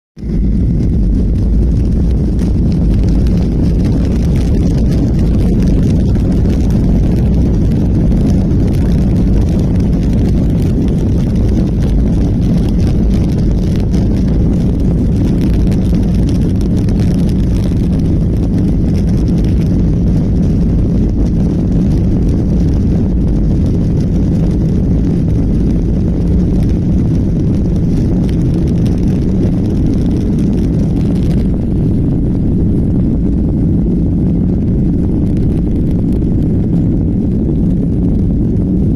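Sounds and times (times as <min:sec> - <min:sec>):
airplane cabin rumble: 0:00.2 - 0:38.9.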